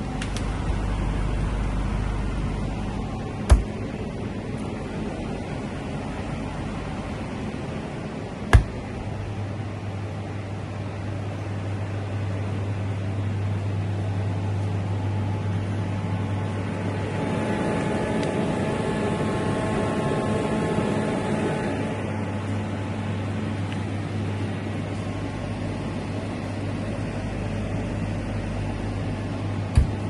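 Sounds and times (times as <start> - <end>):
compressor low hum: 0.0 - 30.0
faint whining tones: 0.0 - 30.0
refrigeration fan whir: 0.0 - 30.0.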